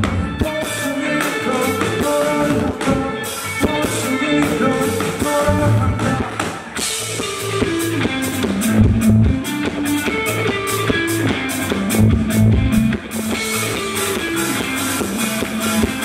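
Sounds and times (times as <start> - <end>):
bass guitar: 0.0 - 16.0
drum kit with cymbals: 0.0 - 16.0
electric guitars: 0.0 - 16.0.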